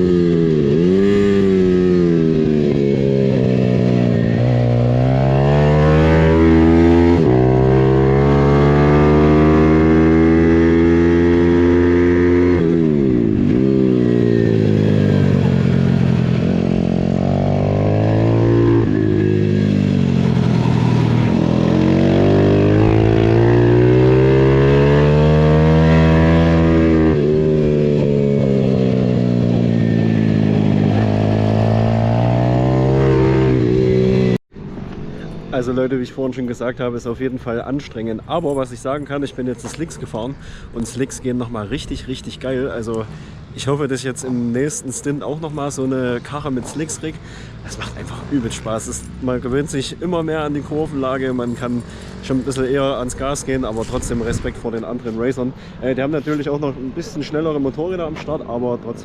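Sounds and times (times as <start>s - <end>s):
motorcycle engine revving: 0.0s - 34.9s, 44.2s - 56.6s.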